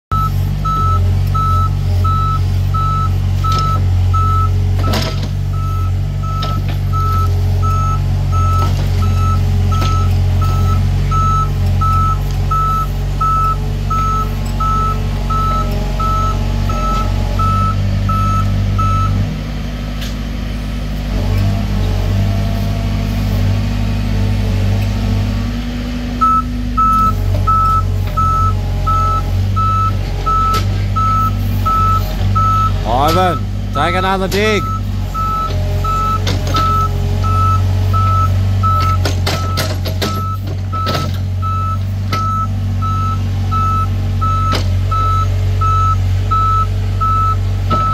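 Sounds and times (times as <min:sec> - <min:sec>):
reversing alarm beeping: 0:00.1 - 0:19.2, 0:26.2 - 0:47.9
diesel machine engine: 0:00.1 - 0:47.9.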